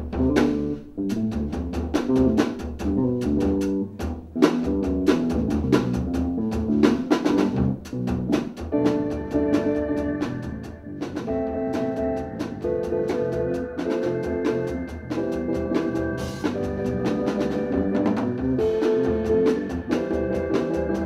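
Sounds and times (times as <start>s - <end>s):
double bass: 0.0s - 21.0s
drum kit playing busily: 0.0s - 21.0s
keyboard lines: 2.1s - 21.0s.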